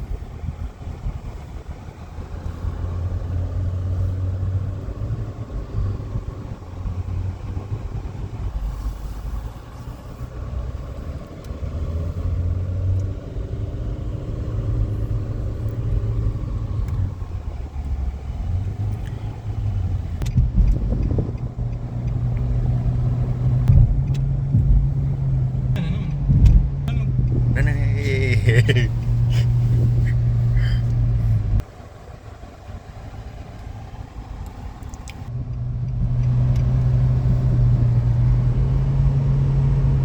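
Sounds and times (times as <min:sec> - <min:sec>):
car engine rumble: 0:00.0 - 0:40.0
road noise: 0:00.0 - 0:40.0.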